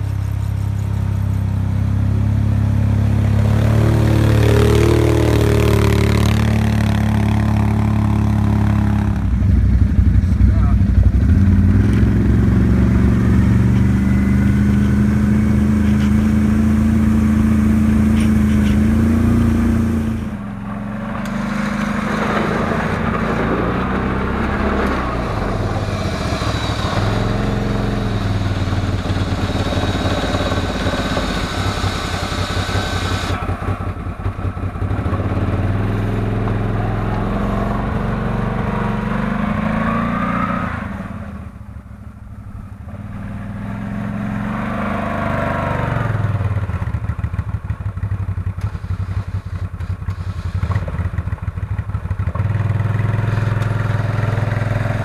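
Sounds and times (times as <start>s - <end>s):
quad engine speed rising and falling: 0.0s - 47.8s, 48.5s - 55.0s
quad engine running: 0.0s - 55.0s.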